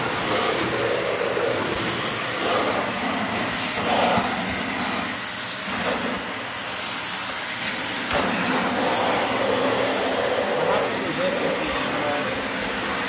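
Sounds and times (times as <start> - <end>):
vacuum cleaner suction hiss: 0.0 - 13.0.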